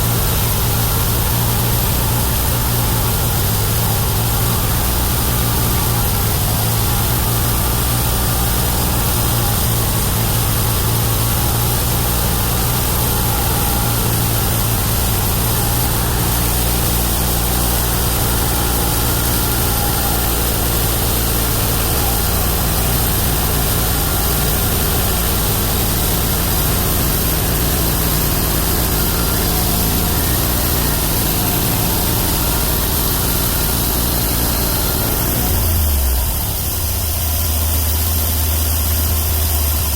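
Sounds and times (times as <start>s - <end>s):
bandsaw mill engine drone: 0.0s - 39.9s.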